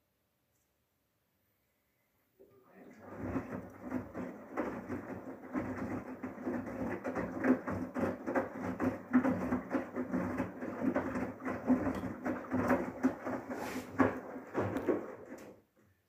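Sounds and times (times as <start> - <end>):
washing machine water sloshing: 2.6 - 15.7.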